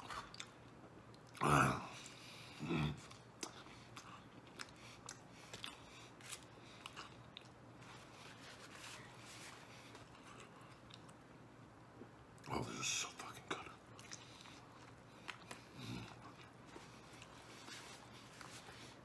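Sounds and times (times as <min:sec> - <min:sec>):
chewing with crunches: 0:00.0 - 0:11.3, 0:13.4 - 0:19.0.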